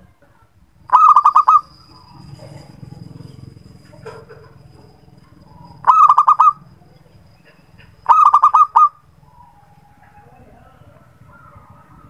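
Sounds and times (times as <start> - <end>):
dove cooing: 0.9 - 12.0.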